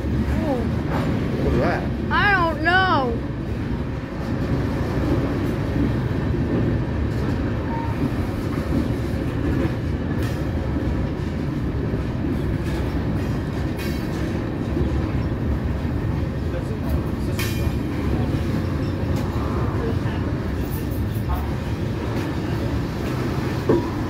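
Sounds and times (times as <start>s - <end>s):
steel wheels rumbling on rails: 0.0s - 24.0s.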